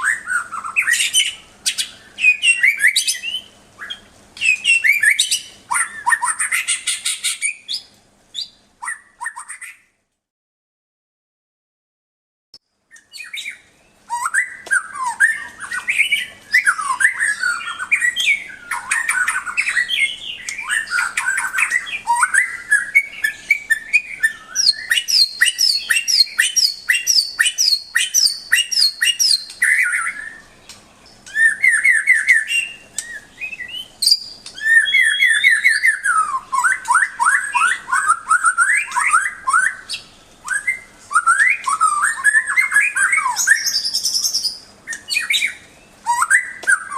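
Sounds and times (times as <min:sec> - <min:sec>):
songbird singing: 0:00.0 - 0:10.0, 0:12.6 - 0:46.9.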